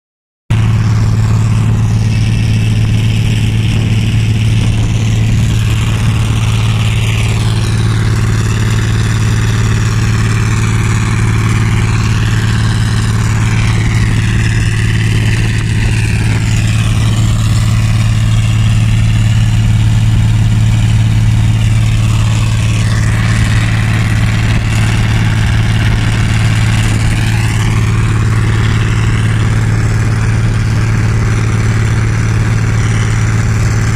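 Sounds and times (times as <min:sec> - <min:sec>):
combine harvester humming: 0:00.5 - 0:33.9.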